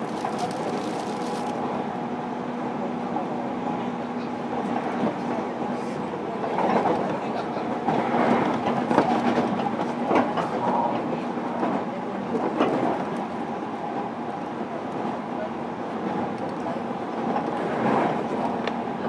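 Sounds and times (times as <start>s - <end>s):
wheels rumbling on rail: 0.0s - 19.0s.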